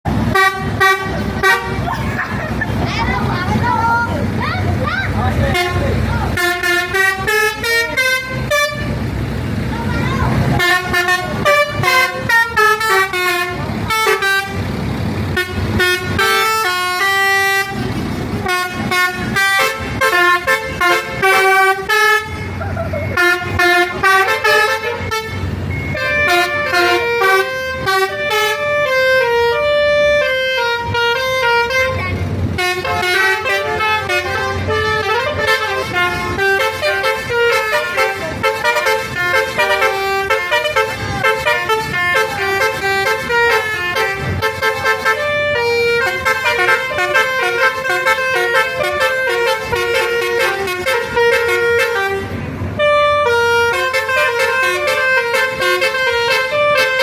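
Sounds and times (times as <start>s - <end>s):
bus melodic air horns: 0.1s - 57.0s.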